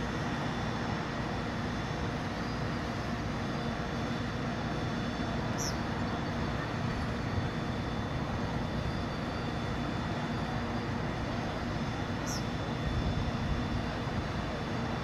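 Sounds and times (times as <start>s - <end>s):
crane engine droning: 0.0s - 15.0s.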